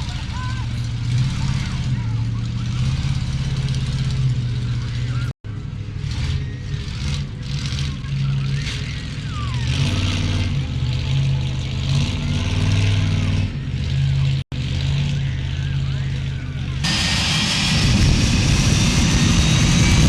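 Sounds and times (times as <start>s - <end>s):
truck engine revving loudly: 0.0s - 20.0s.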